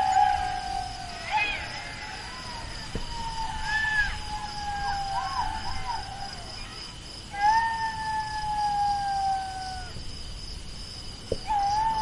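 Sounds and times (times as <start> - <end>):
jackal howling: 0.0 - 10.0, 11.4 - 12.0
insects chirping: 0.0 - 12.0.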